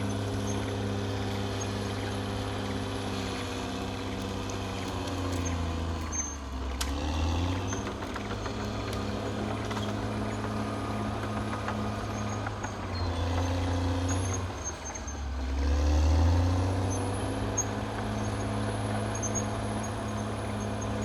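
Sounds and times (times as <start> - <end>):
bulldozer diesel engine under load: 0.0 - 21.0.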